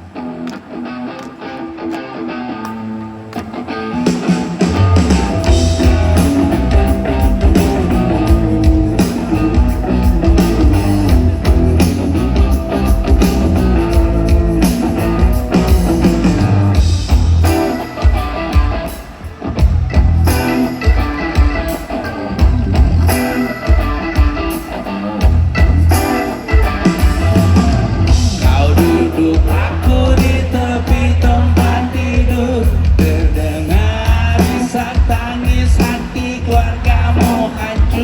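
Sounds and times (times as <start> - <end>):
live band playing: 0.0 - 38.0.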